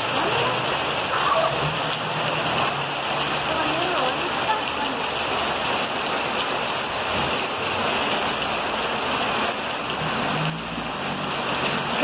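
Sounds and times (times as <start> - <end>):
flood water rushing along street: 0.0 - 12.0.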